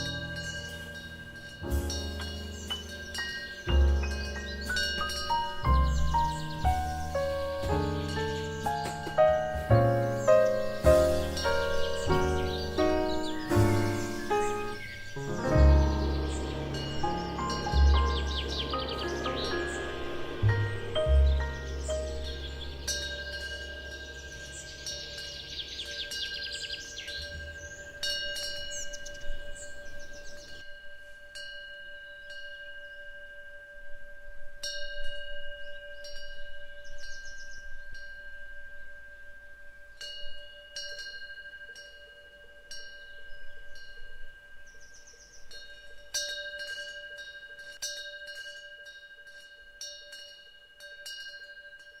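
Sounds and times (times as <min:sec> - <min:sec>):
wind chimes tinkling: 0:00.0 - 0:52.0.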